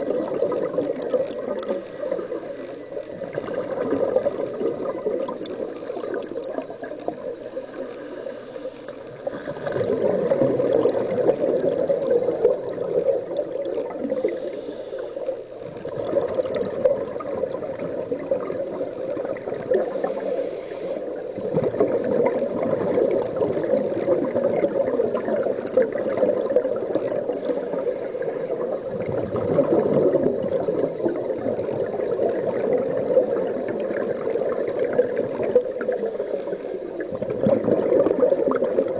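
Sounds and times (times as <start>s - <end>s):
regulator exhaust bubbles underwater: 0.0s - 38.9s.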